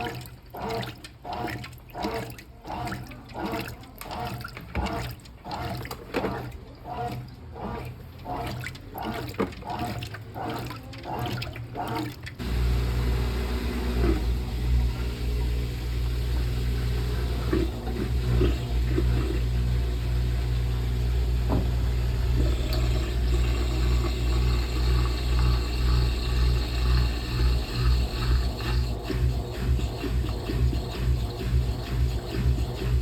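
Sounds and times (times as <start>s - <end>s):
washing machine motor humming: 0.0s - 33.0s
water noise: 0.0s - 33.0s.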